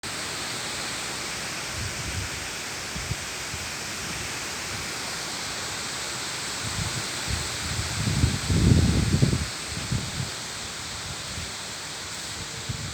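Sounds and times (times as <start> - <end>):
leaves rustling in wind: 0.0 - 12.9.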